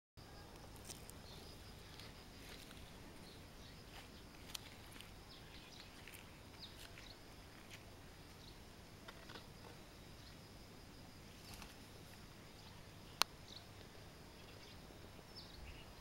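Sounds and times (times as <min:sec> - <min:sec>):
low background noise: 0:00.2 - 0:16.0
small birds chirping: 0:00.2 - 0:16.0.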